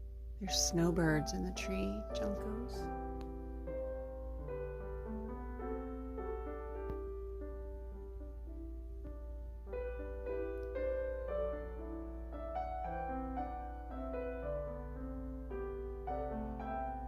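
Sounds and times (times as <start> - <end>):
gentle solo piano: 0.0 - 17.0
steady low hum: 0.0 - 17.0.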